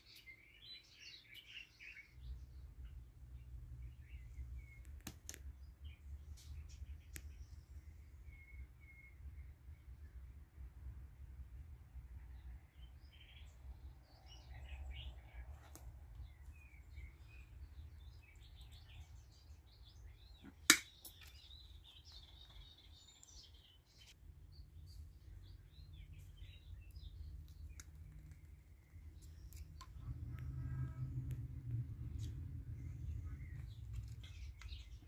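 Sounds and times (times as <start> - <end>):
small birds chirping: 0.0 - 10.3, 12.2 - 35.0.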